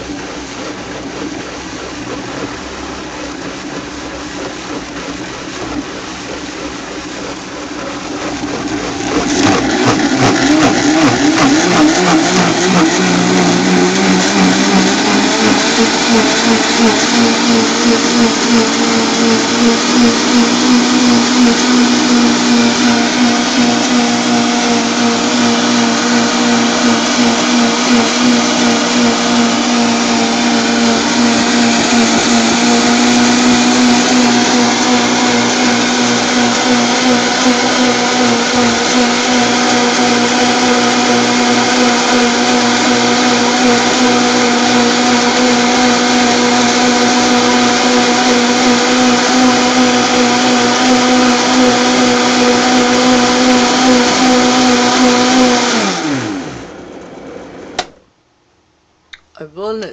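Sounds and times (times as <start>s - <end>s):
blender running: 7.8s - 57.8s.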